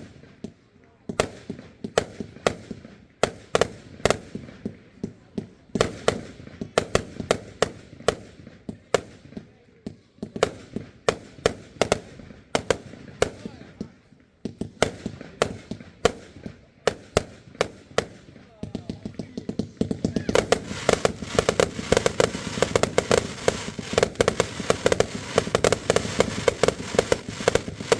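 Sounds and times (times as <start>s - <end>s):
fireworks bursting: 1.1s - 9.4s, 10.3s - 27.9s.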